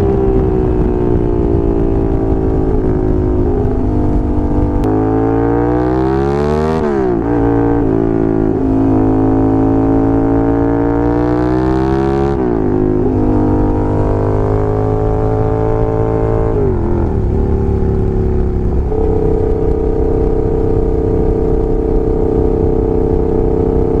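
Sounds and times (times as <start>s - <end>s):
motorcycle engine shifting gears: 0.0s - 24.0s.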